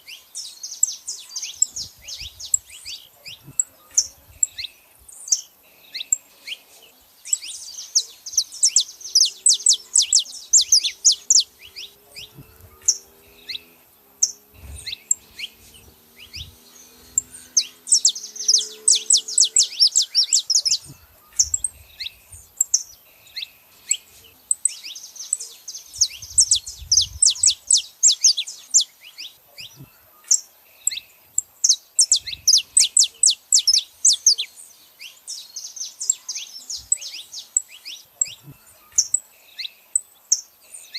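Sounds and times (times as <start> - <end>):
finches chirping and singing: 0.0 - 40.9.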